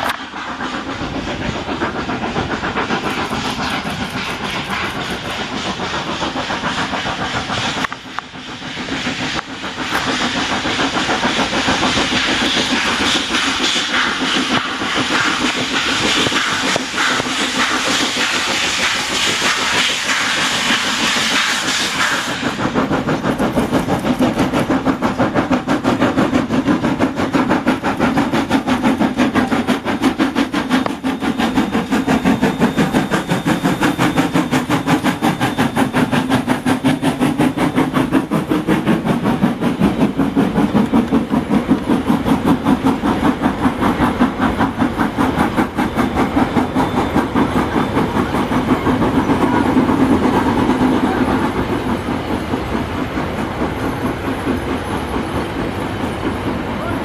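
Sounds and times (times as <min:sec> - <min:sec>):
loud steam hiss: 0:00.0 - 0:57.0
steam locomotive chuffing: 0:00.0 - 0:57.0.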